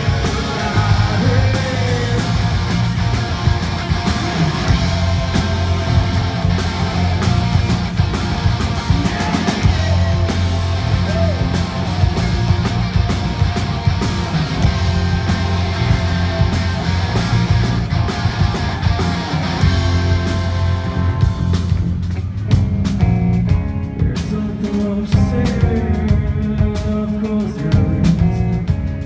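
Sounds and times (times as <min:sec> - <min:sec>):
drum hits: 0:00.0 - 0:24.2
distorted electric guitars: 0:00.0 - 0:29.0
heavy bass line: 0:00.0 - 0:29.0.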